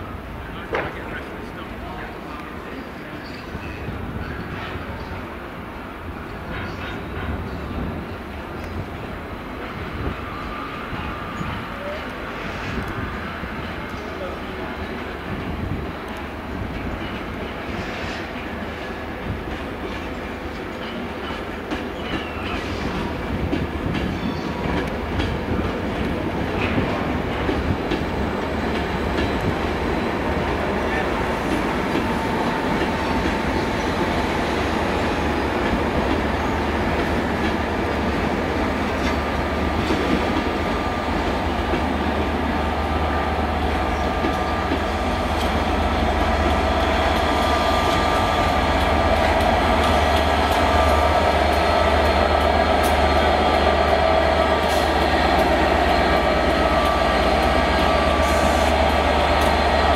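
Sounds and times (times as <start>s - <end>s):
diesel locomotive drone: 0.0s - 59.9s.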